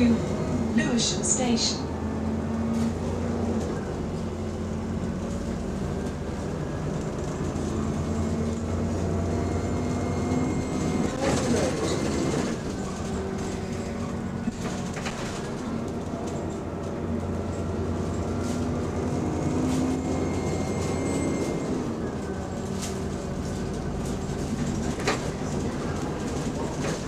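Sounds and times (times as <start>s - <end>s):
bus engine humming: 0.0s - 27.0s.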